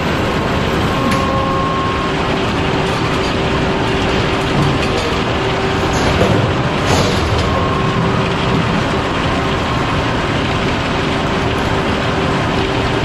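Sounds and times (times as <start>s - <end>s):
sawmill machinery with whining saw: 0.0s - 13.0s.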